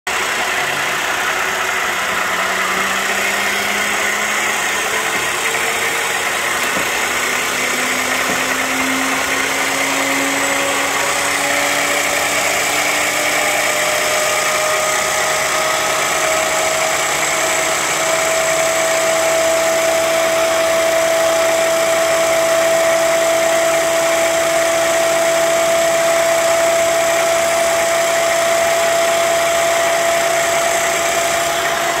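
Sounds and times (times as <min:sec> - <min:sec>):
grinder whirring: 0:00.1 - 0:32.0.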